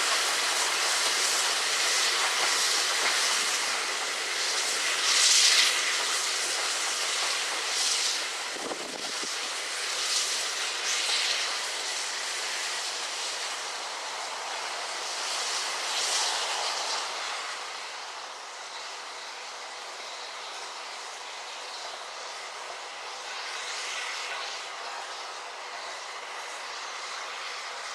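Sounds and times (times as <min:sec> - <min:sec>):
steam locomotive hissing steam: 0:00.0 - 0:27.9.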